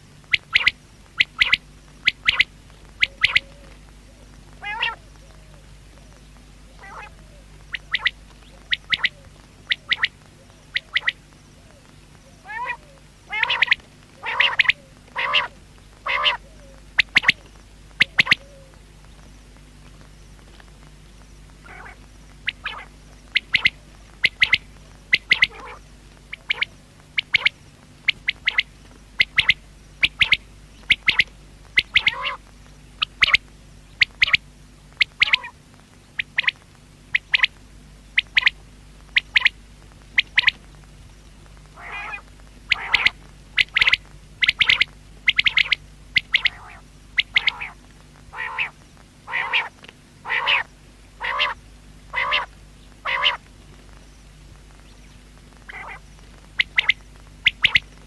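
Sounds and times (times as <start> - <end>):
quail calling: 0.2 - 18.8, 21.6 - 37.6, 38.2 - 40.6, 41.7 - 54.0, 55.6 - 58.0.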